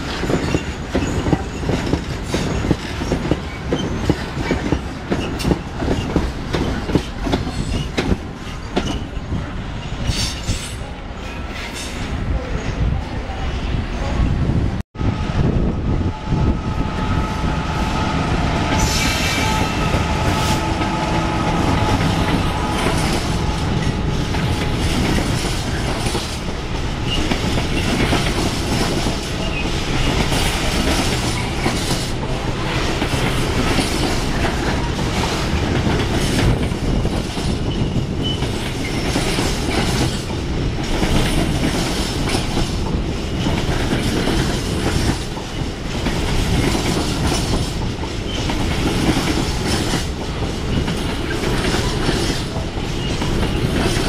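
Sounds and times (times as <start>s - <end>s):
train wheels clattering over joints: 0.0s - 9.2s, 18.6s - 54.0s
high whine of locomotive: 0.0s - 54.0s
train rumble: 0.0s - 54.0s.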